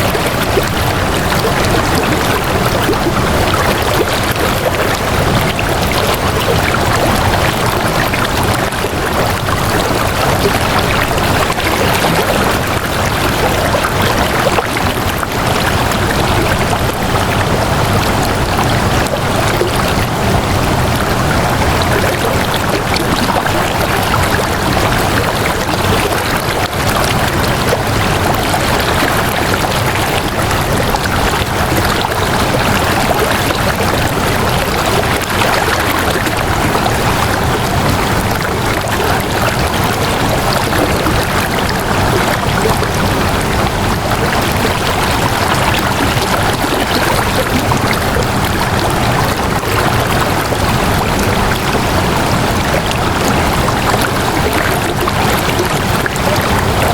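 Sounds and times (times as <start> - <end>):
flowing water rushing: 0.0 - 56.9.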